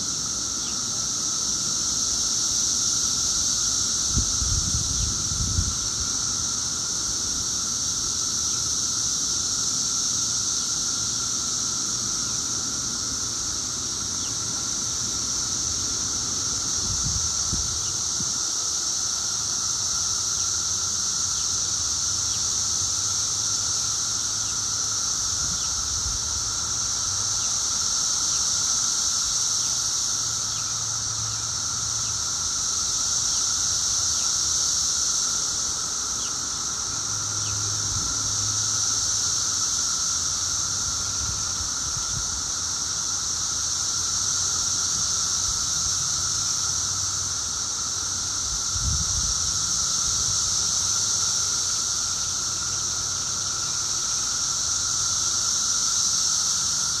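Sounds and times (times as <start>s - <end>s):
cicada chorus drone: 0.0s - 57.0s.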